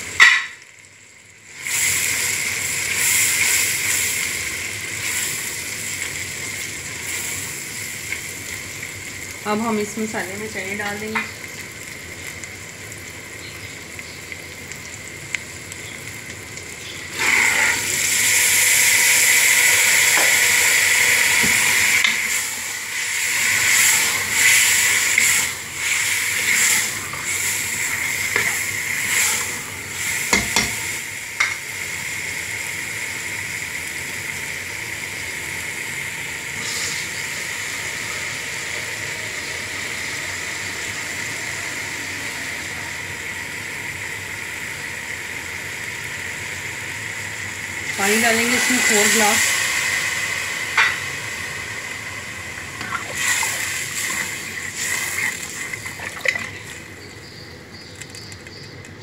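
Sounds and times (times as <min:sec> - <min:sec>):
chickpeas sizzling in oil: 0:00.0 - 0:59.0.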